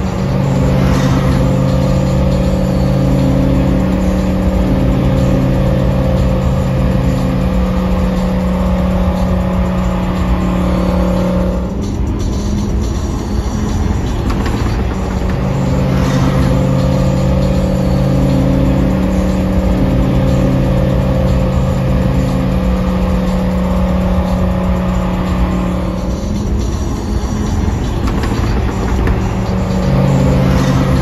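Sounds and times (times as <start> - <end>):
car exhaust drone: 0.0 - 31.0.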